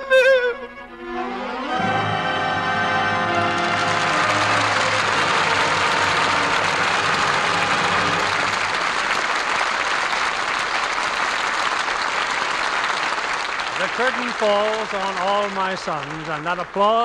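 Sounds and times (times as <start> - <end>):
audience applauding: 1.6 - 17.0.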